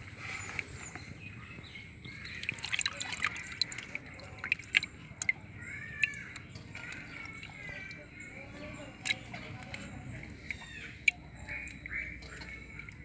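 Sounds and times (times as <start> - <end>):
water dripping and splashing in tub: 2.0 - 13.0.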